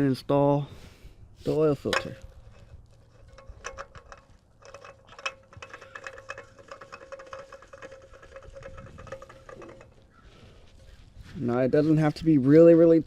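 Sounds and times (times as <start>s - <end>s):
oil filter clicks and scrapes: 1.4s - 13.0s.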